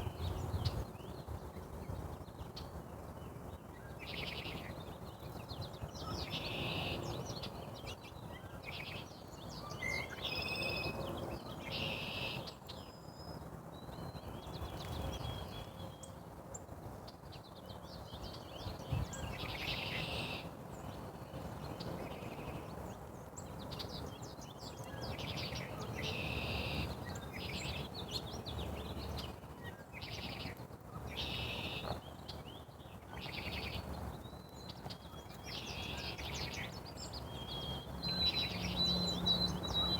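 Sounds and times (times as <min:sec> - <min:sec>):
small birds chirping: 0:02.5 - 0:39.9.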